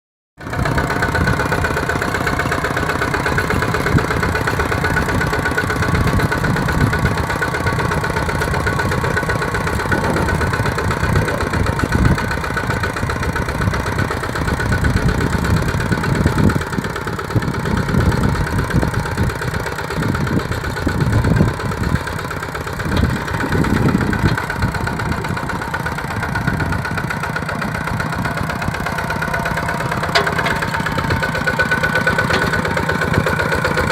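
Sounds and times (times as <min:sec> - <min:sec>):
diesel engine running: 0:00.4 - 0:33.9.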